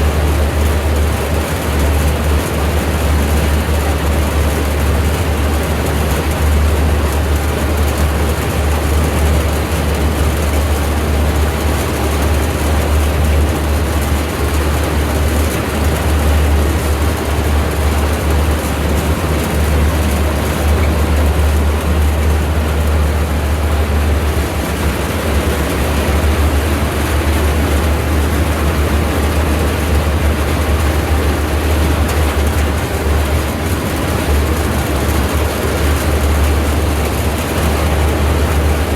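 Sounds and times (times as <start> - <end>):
tractor engine rumbling: 0.0 - 38.9.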